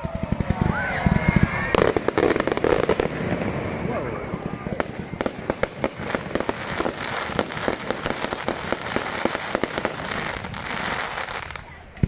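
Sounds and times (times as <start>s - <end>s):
fireworks crackling pops: 0.0s - 12.0s
fireworks fizzing hiss: 0.9s - 12.0s.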